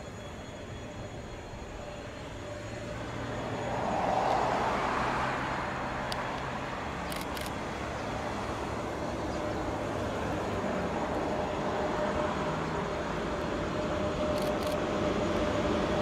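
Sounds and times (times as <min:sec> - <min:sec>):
freight train rolling: 0:00.0 - 0:16.0.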